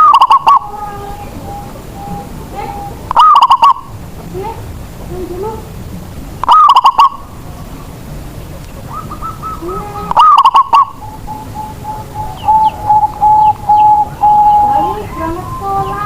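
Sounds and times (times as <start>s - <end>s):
dove cooing: 0.0s - 4.6s, 6.4s - 7.9s, 8.8s - 16.0s.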